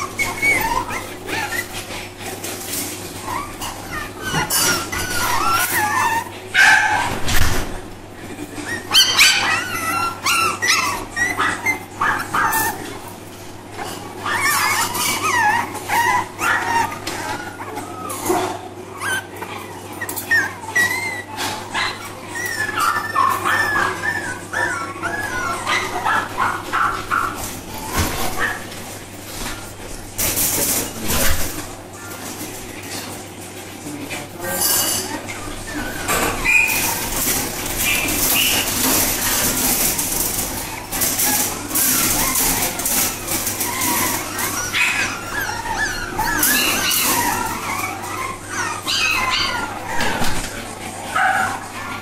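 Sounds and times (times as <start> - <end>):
puppies yipping and whining: 0.0 - 52.0.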